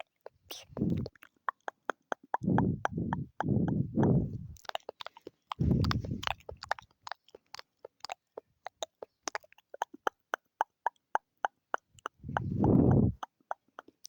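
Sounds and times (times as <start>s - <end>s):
loud full mouth sound: 0.0s - 14.0s
wet tongue and lip clicks: 0.0s - 14.0s.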